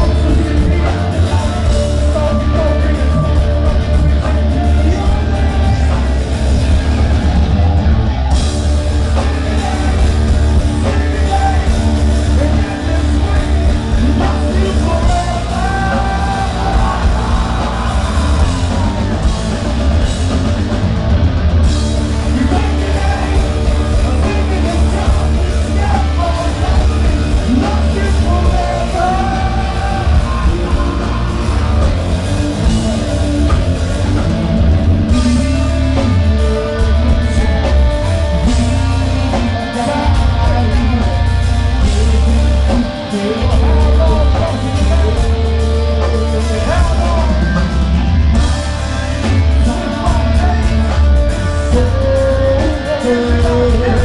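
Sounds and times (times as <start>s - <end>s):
person singing lead vocal: 0.0s - 20.4s, 21.8s - 54.0s
live rock band: 0.0s - 54.0s.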